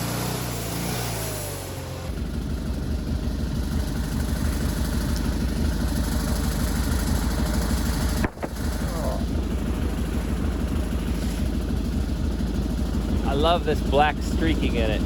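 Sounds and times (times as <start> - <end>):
sawmill engine slowing to idle: 0.0 - 15.0.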